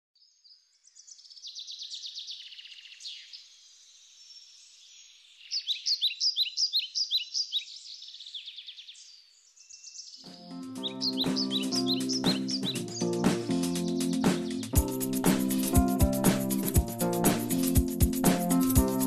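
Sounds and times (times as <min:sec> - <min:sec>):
songbirds chirping: 0:00.2 - 0:17.9.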